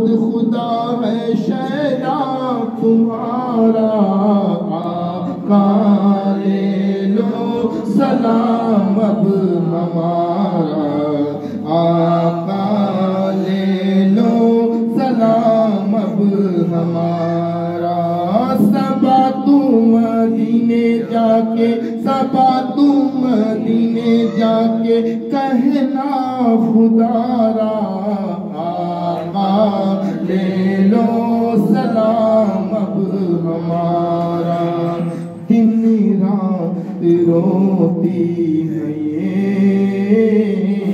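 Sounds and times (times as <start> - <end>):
man singing into microphone: 0.0 - 40.9.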